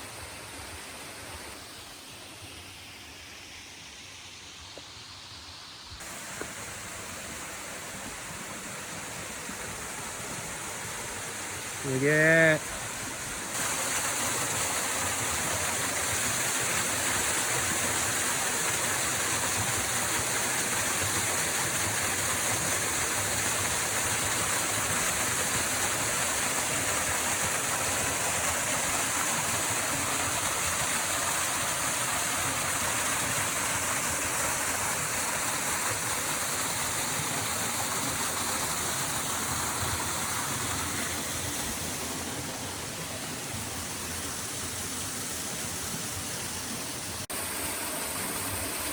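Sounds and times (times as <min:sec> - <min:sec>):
waterfall rushing: 0:06.0 - 0:48.9.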